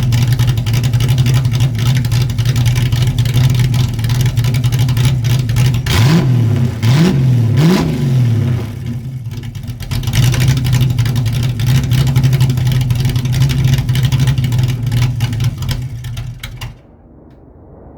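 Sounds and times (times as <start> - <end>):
car engine revving and idling: 0.0 - 16.8.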